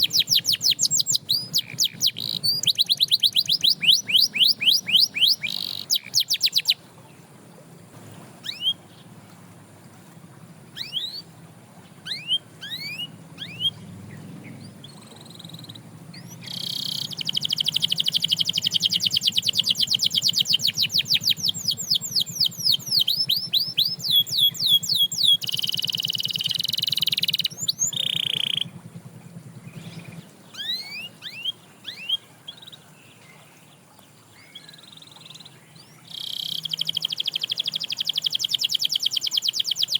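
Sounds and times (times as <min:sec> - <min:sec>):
canary singing: 0:00.0 - 0:06.8, 0:08.4 - 0:09.2, 0:10.4 - 0:28.9, 0:29.6 - 0:32.9, 0:34.4 - 0:39.9.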